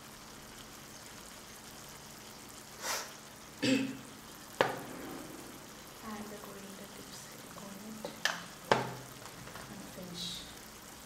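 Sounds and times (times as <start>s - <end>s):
gravy simmering and sizzling: 0.0s - 11.0s.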